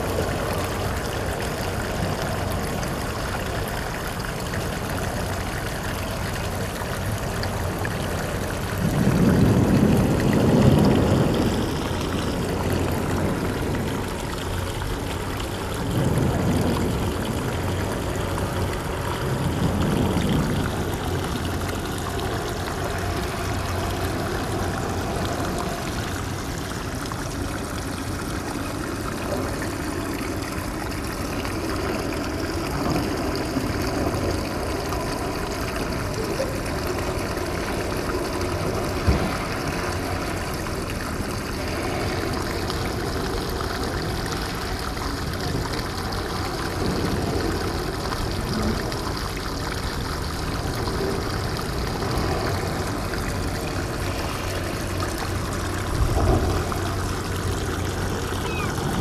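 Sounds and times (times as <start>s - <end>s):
seawater lapping in rock pool: 0.0s - 59.0s.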